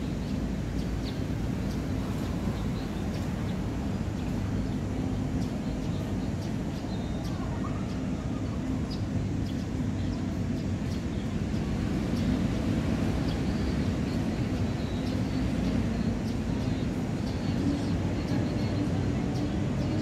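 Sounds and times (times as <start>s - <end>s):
faint droning hum: 0.0s - 20.0s
low outdoor rumble: 0.0s - 20.0s.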